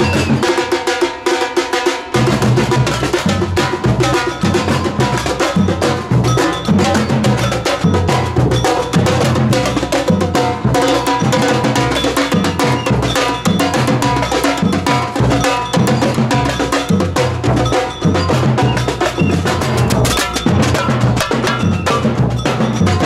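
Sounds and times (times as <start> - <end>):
samba percussion band: 0.0 - 23.0.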